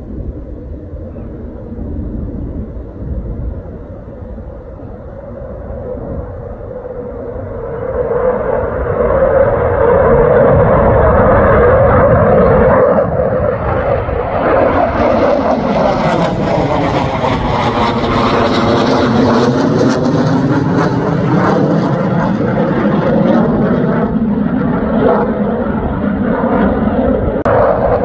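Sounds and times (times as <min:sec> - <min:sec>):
crackling jet roar: 0:00.0 - 0:28.0
fighter jet flying overhead: 0:00.0 - 0:28.0.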